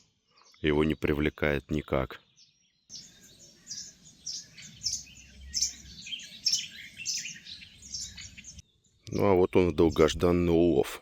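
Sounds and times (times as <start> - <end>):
songbirds chirping and singing: 0.0 - 11.0.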